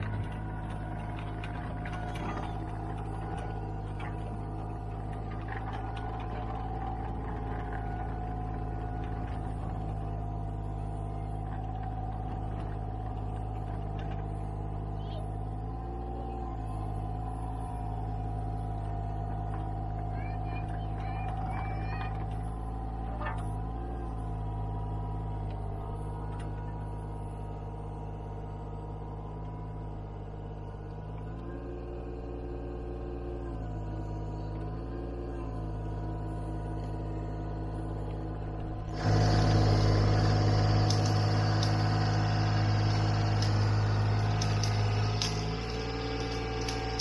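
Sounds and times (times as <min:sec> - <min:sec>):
motor humming: 0:00.0 - 0:47.0.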